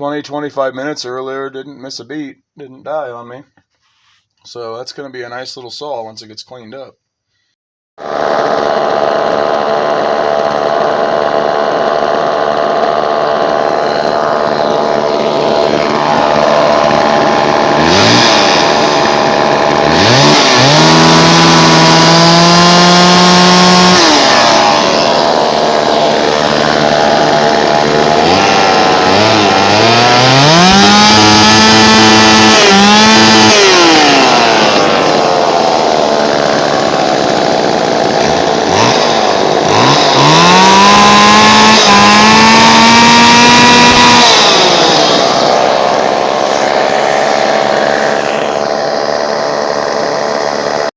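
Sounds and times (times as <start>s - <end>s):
chainsaw idling and revving: 8.0s - 50.9s.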